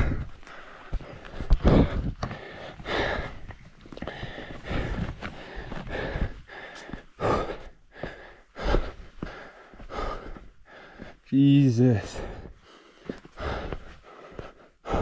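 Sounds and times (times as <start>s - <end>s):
person breathing hard: 0.0s - 11.3s, 11.9s - 15.0s.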